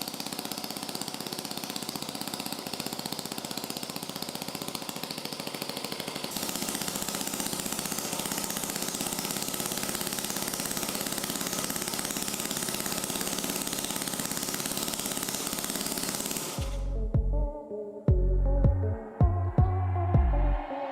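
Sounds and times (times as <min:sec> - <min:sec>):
welding arc crackling and buzzing: 0:00.0 - 0:17.0.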